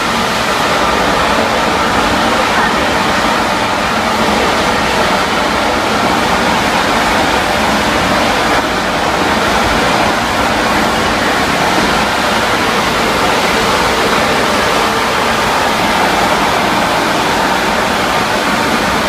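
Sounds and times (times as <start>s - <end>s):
steam hissing from locomotive: 0.0s - 19.0s.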